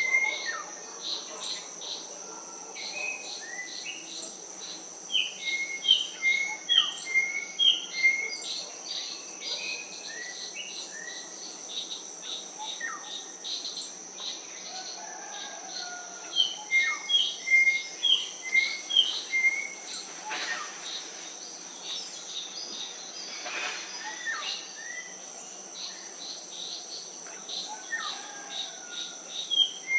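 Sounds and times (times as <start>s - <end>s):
high-pitched insect drone: 2.8s - 29.9s.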